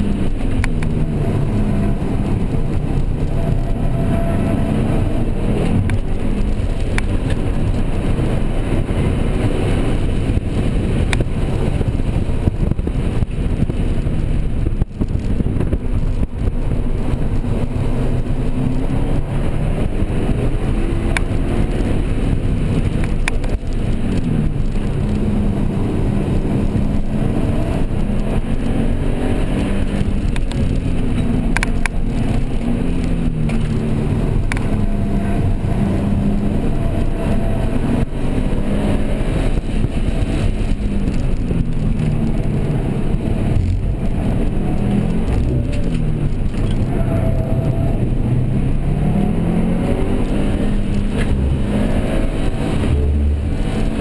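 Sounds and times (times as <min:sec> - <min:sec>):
car engine accelerating: 0:00.0 - 0:54.0
road and tyre noise: 0:00.0 - 0:54.0.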